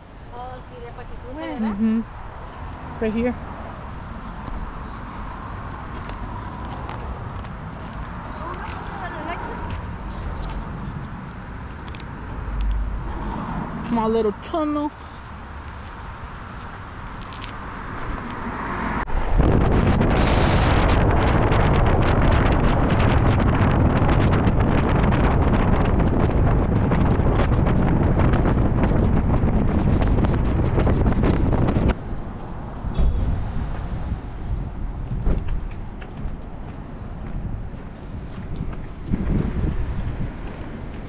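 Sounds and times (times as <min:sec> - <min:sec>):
low rumble: 0:00.0 - 0:14.4, 0:18.0 - 0:41.0
wind buffeting microphone: 0:00.0 - 0:41.0.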